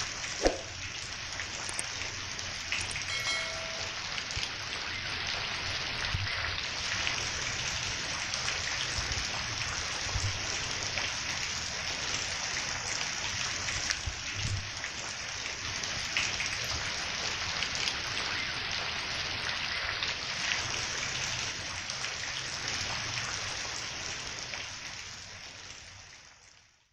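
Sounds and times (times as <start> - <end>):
rain pattering on leaves: 0.0 - 26.9.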